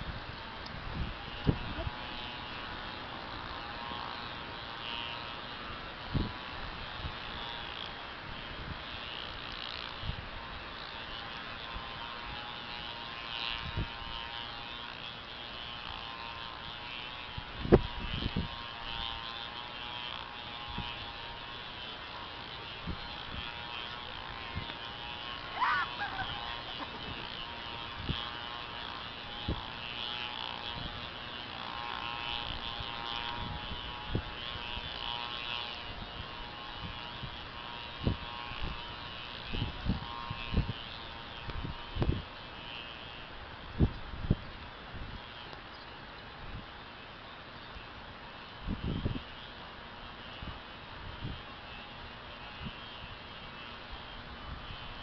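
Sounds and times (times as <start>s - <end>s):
whirring buzzing hum: 0.0s - 55.0s.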